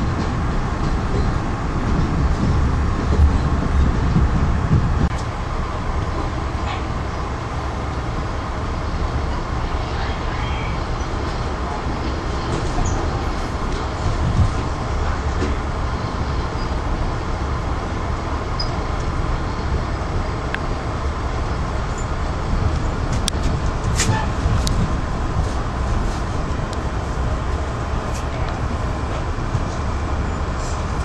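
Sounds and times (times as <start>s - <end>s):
passenger train rumbling: 0.0s - 31.0s.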